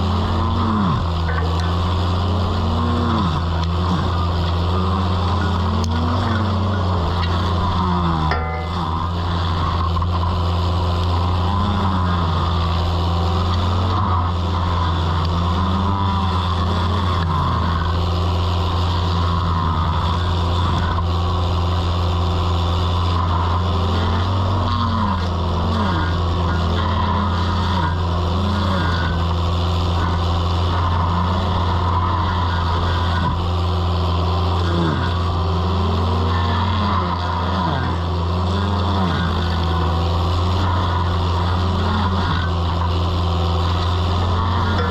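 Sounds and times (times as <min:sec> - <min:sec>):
stump grinder droning and whining: 0:00.0 - 0:44.9.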